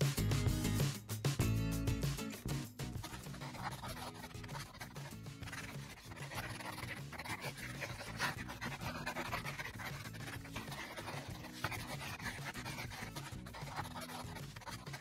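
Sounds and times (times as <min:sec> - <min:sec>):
marker scratching on paper: 0:02.4 - 0:15.0.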